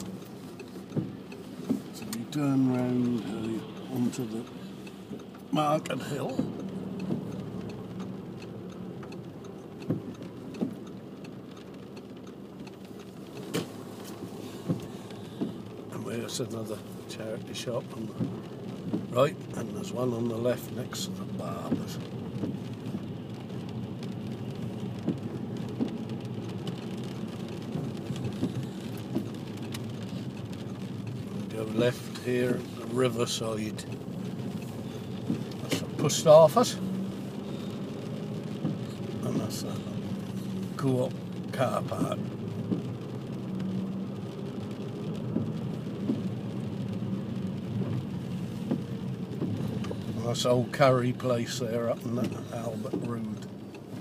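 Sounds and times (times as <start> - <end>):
rain on car roof: 0.0 - 54.0
raindrop taps: 0.0 - 54.0
road and engine noise: 0.0 - 54.0.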